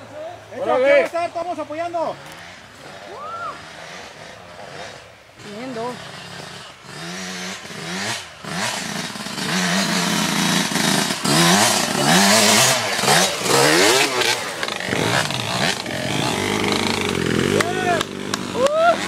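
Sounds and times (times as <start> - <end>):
dirt bike engine revving: 1.8 - 19.0.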